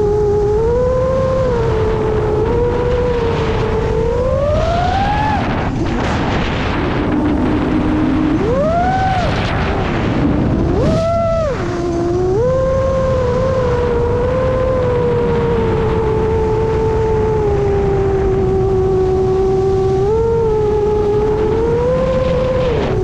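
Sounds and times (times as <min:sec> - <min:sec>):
drone motors whining: 0:00.0 - 0:23.0
wind rumble on microphone: 0:00.0 - 0:23.0.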